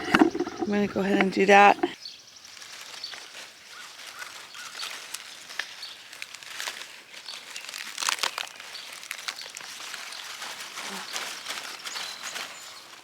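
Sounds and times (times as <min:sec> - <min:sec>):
leafy plants rustling: 0:00.0 - 0:13.0.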